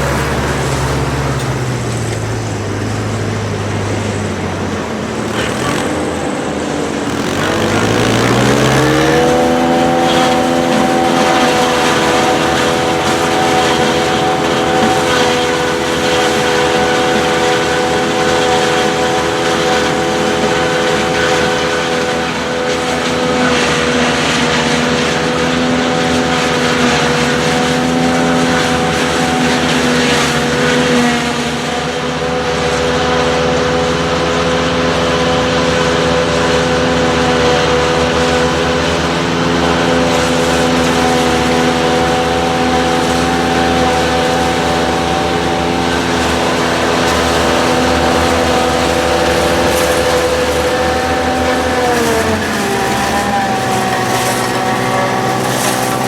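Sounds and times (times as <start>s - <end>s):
tractor and forage harvester running: 0.0s - 56.0s.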